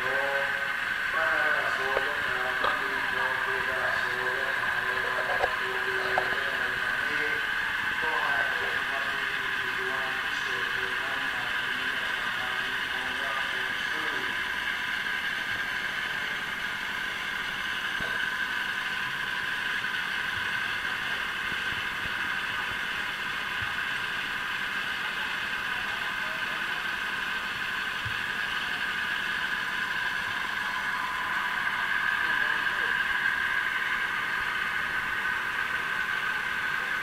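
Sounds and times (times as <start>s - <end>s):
steady whirring noise: 0.0s - 37.0s.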